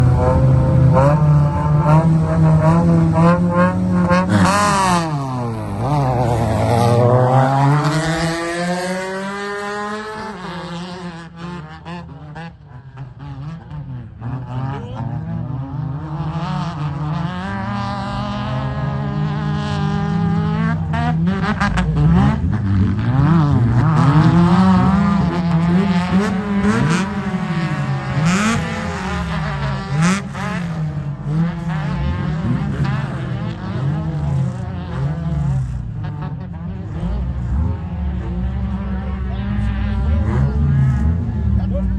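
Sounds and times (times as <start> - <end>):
buggy engine revving: 0.0 - 41.9.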